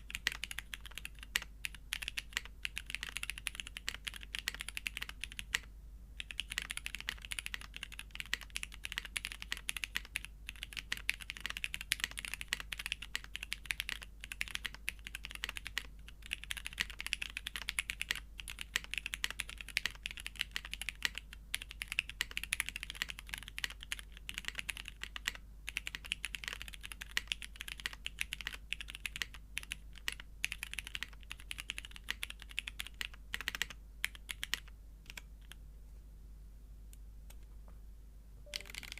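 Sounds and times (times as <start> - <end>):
mechanical keyboard typing: 0.0 - 35.6, 38.5 - 38.9.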